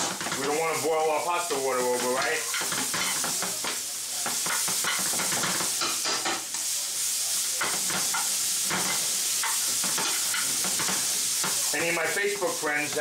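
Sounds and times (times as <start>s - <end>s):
metal tongs scraping a pan: 0.0s - 6.4s, 7.6s - 13.0s
vegetables sizzling in a frying pan: 0.0s - 13.0s.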